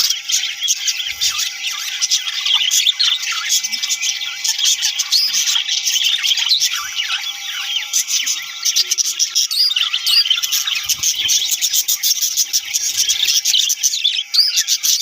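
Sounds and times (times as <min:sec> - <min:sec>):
budgerigars chattering: 0:00.0 - 0:15.0.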